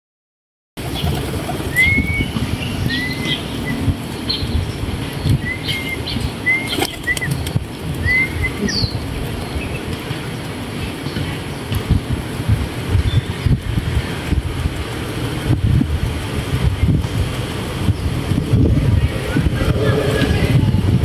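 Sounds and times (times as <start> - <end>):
pigeons flapping wings: 0.8 - 4.2, 5.2 - 20.6.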